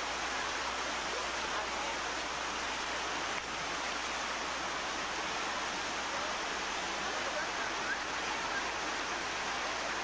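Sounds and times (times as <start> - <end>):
stream water running over rocks: 0.0 - 10.0.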